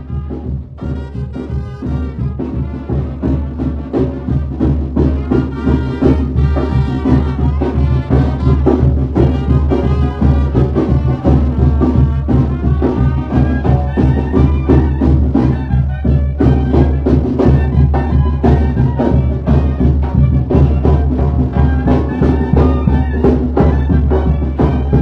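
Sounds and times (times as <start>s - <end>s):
brass band playing dance tune: 0.0s - 25.0s.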